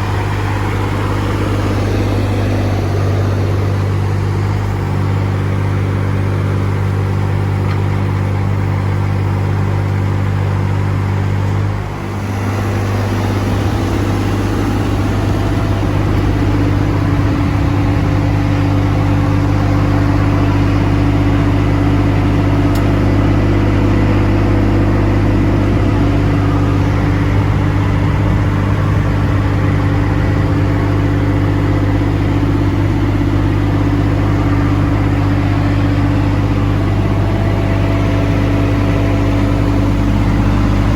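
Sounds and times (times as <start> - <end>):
mini excavator diesel engine running: 0.0 - 40.9.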